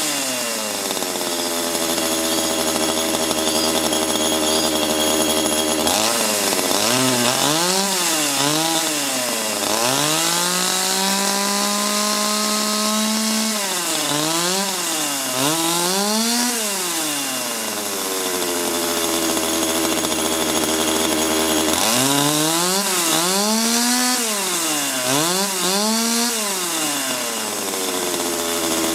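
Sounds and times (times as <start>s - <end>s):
chainsaw engine revving: 0.0s - 28.9s
chainsaw idling: 0.0s - 28.9s.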